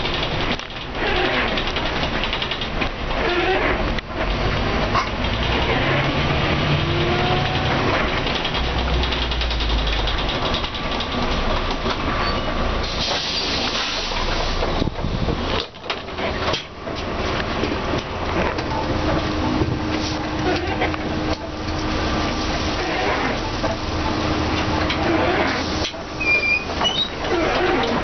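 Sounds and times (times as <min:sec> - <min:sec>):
bus body rattling: 0:00.0 - 0:28.0
bus diesel engine working hard: 0:00.0 - 0:28.0.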